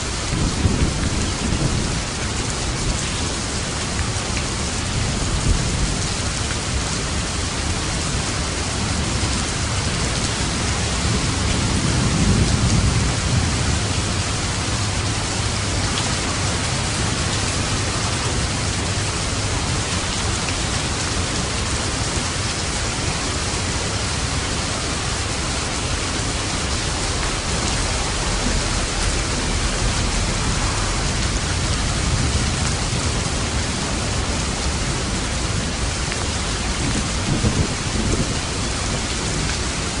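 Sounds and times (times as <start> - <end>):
heavy rain: 0.0 - 40.0
thunder rumbling: 0.1 - 2.9, 8.8 - 22.3, 22.9 - 40.0.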